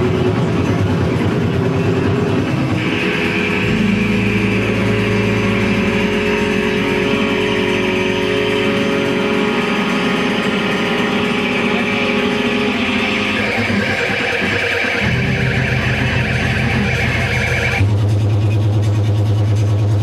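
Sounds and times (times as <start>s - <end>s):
electric guitar feedback drone: 0.0s - 18.0s.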